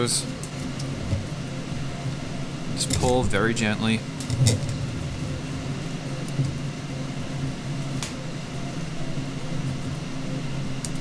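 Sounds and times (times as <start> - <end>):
low mechanical fan hum: 0.0 - 11.0.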